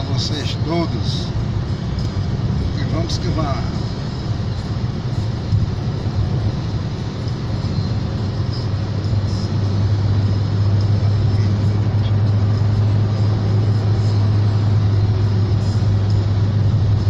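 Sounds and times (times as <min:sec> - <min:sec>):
low engine drone: 0:00.0 - 0:17.0
road roar in car cabin: 0:00.0 - 0:17.0.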